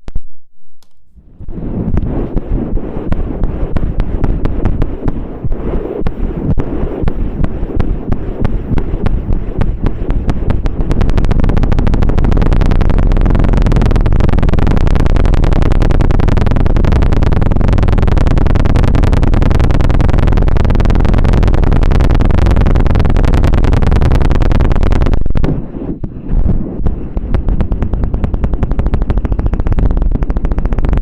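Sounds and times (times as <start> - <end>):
ear pick scraping microphone: 0.8 - 31.0.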